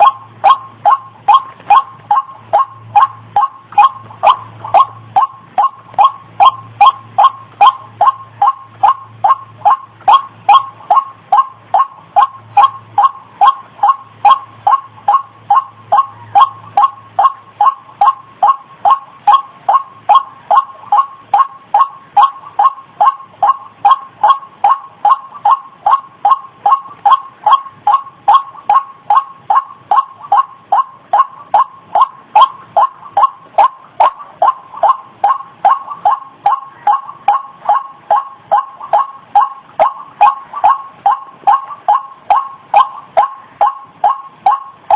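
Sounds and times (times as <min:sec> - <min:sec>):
faint low electrical hum: 0:00.0 - 0:44.9
waterhen calling: 0:00.0 - 0:44.9.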